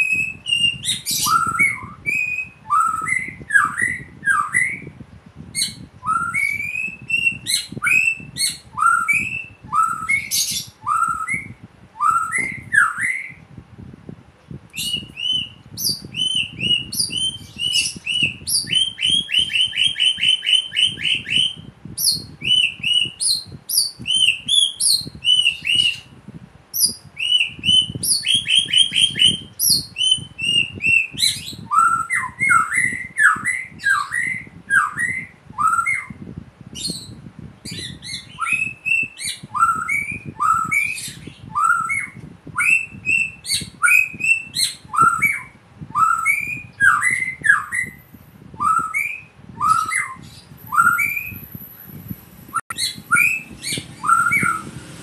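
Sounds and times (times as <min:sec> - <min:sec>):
bird singing whistled notes: 0:00.0 - 0:05.0, 0:05.6 - 0:13.4, 0:14.8 - 0:36.2, 0:36.8 - 0:52.0, 0:52.7 - 0:54.8.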